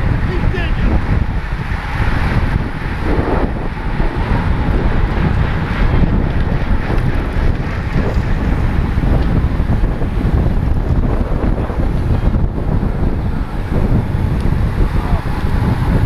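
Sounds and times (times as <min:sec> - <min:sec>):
heavy wind buffeting: 0:00.0 - 0:16.0.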